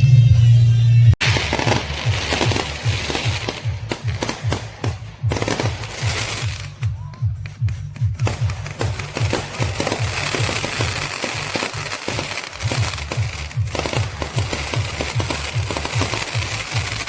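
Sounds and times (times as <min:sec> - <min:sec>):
music with bass beat: 0:00.0 - 0:17.0
fireworks crackling: 0:01.2 - 0:17.0.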